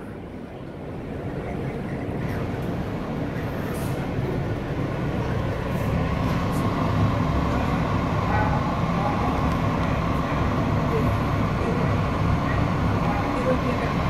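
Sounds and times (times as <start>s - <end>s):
subway car running noise: 0.0s - 14.0s.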